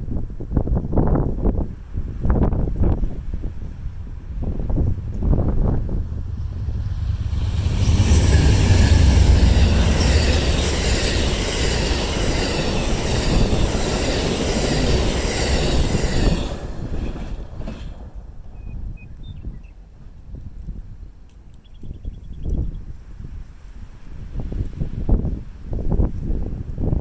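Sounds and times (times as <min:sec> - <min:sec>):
train wheels rumbling on rails: 0:00.0 - 0:22.4
wind buffeting microphone: 0:00.0 - 0:27.0.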